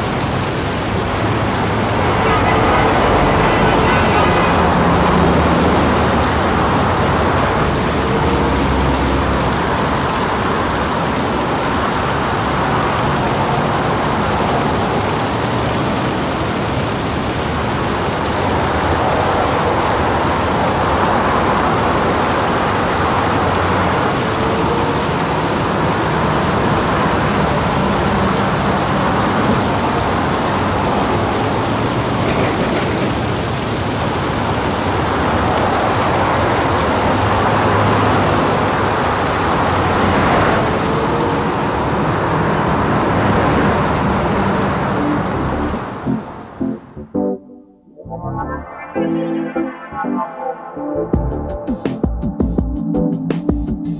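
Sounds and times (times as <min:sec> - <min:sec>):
city traffic noise: 0:00.0 - 0:47.2, 0:47.8 - 0:52.4
vehicles passing: 0:00.0 - 0:47.2.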